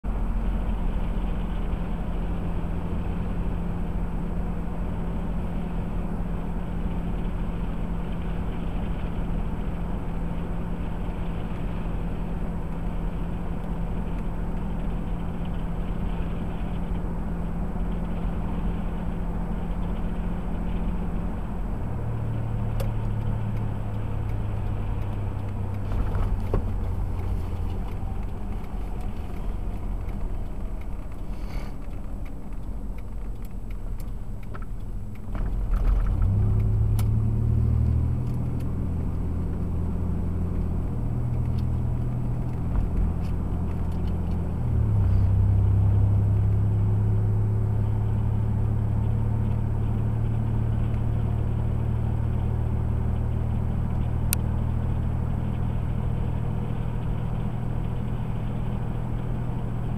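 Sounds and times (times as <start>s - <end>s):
car tyre and engine drone: 0.0s - 59.9s.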